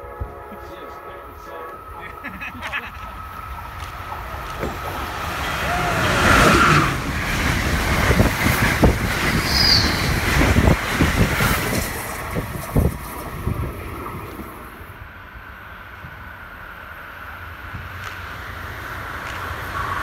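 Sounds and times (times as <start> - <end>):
train passing with rushing roar: 0.0 - 20.0
wheels clacking on track: 1.7 - 15.0, 16.9 - 20.0.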